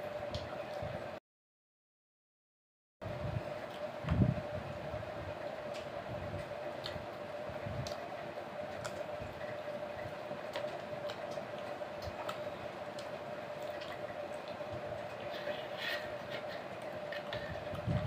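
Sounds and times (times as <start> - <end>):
steady background hum: 0.0 - 1.2, 3.0 - 18.0.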